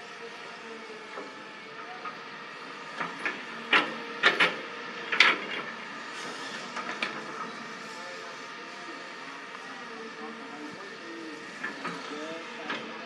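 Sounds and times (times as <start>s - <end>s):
excavator diesel engine running: 0.0s - 13.0s
loud sharp machine noises: 0.0s - 13.0s.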